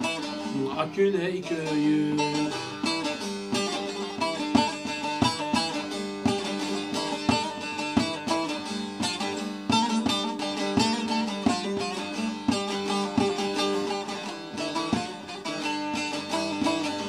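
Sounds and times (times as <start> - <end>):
long-necked lute strummed: 0.0 - 17.0.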